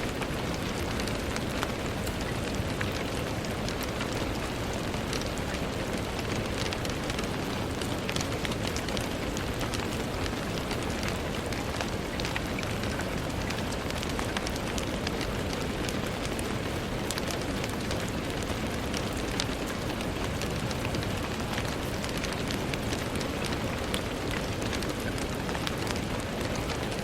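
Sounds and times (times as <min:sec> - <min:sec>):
rain on a window: 0:00.0 - 0:27.0.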